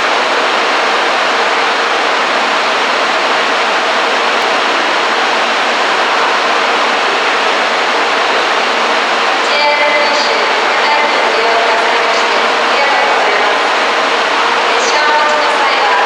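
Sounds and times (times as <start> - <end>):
station platform rushing din: 0.0 - 16.0.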